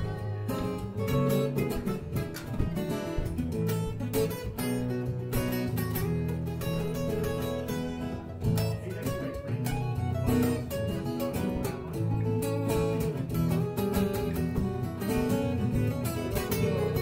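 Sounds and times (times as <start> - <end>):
acoustic blues guitar: 0.0 - 17.0.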